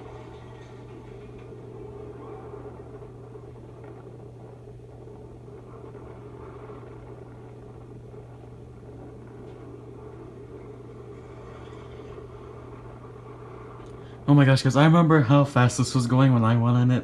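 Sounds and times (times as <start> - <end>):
roller coaster rumble and hum: 0.0 - 17.0.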